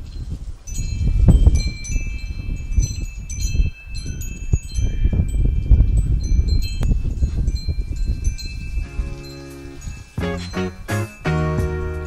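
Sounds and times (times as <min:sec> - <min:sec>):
wind chimes ringing: 0:00.2 - 0:12.0.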